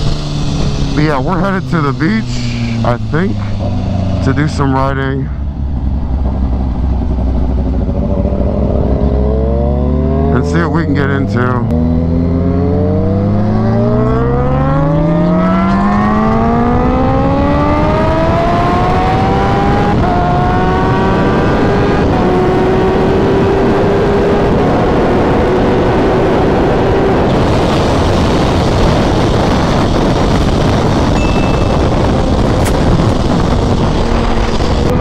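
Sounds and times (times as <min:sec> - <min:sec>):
wind rush on microphone: 0:00.0 - 0:09.4, 0:12.6 - 0:35.0
motorcycle engine accelerating: 0:00.0 - 0:35.0.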